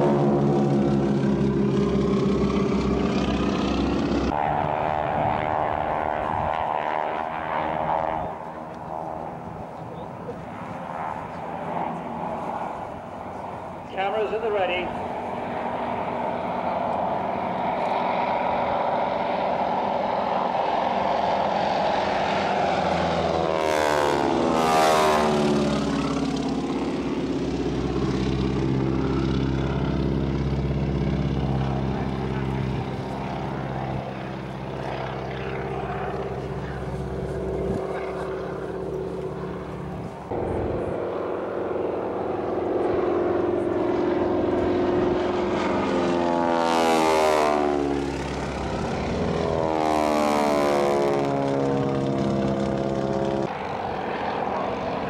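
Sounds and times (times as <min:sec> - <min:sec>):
biplane engines droning past: 0:00.0 - 0:55.0.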